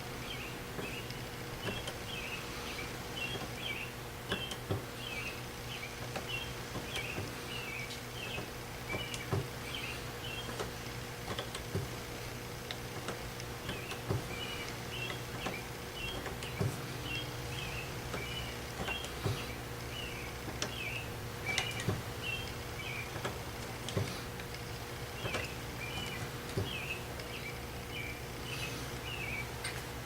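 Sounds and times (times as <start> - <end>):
low electrical hum: 0.0 - 30.0
small bird chirping: 0.2 - 10.6, 13.7 - 23.3, 24.6 - 29.8.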